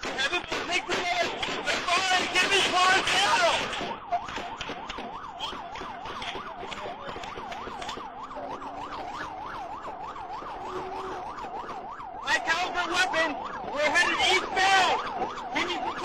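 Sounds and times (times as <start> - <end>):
police siren yelping: 0.0 - 16.0.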